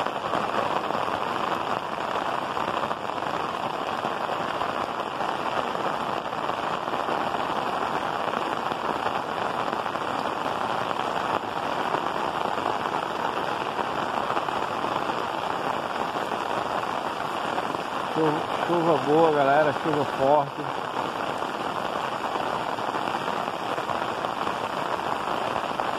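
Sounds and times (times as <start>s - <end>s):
heavy rain on tile roofs: 0.0s - 25.9s.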